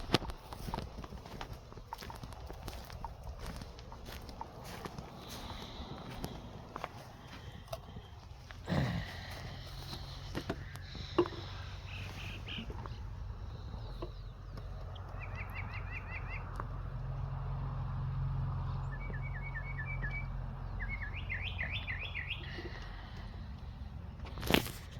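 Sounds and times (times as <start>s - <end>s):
distant road traffic rumble: 0.0s - 24.9s
songbirds chirping: 0.0s - 24.9s.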